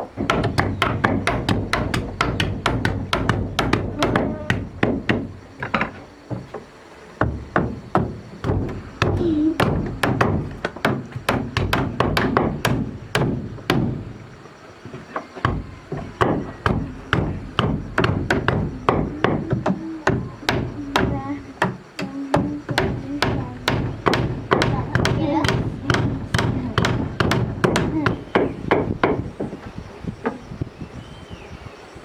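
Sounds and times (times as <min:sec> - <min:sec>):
tool striking wood: 0:00.2 - 0:29.6.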